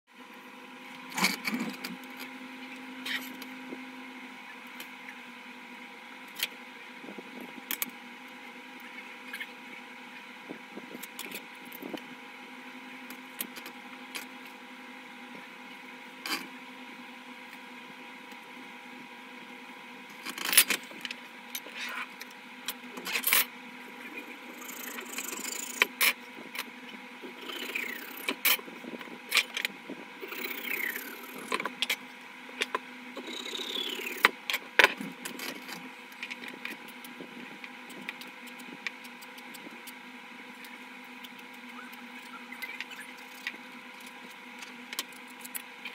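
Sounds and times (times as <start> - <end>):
steady hum: 0.1 - 45.9.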